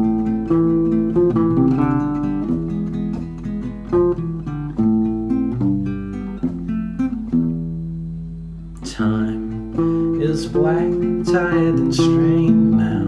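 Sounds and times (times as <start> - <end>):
acoustic guitar fingerpicked: 0.0 - 13.0.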